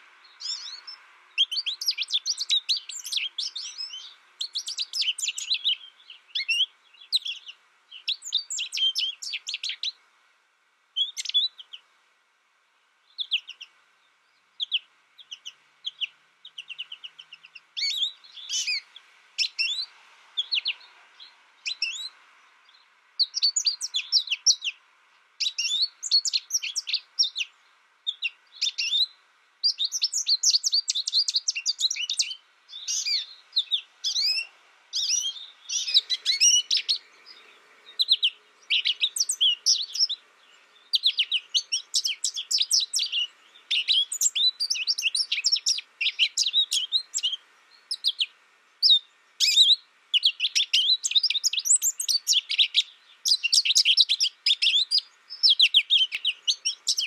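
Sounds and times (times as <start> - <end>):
finch singing: 0.0 - 10.0, 11.0 - 11.8, 13.0 - 24.8, 25.4 - 57.0.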